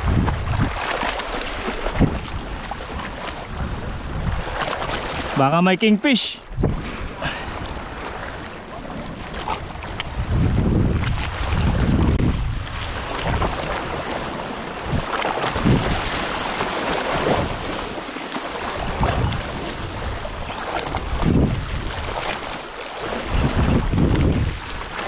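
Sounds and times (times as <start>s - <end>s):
wind buffeting microphone: 0.0s - 5.4s, 6.4s - 18.0s, 18.6s - 25.0s
sea waves washing: 0.0s - 25.0s.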